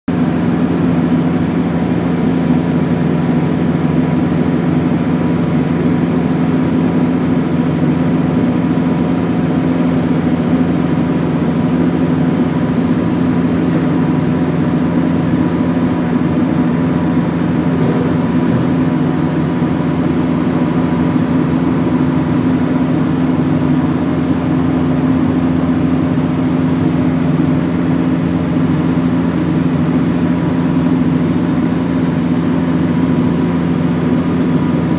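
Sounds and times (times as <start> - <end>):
loud low hum: 0.1 - 34.9.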